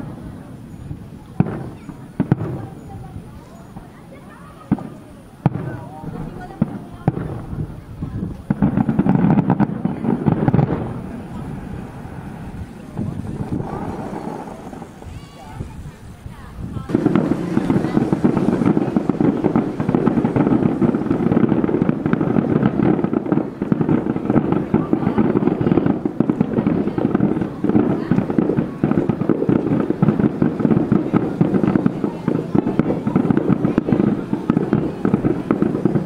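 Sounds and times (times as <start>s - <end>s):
distant fireworks booming and crackling: 0.0s - 36.0s.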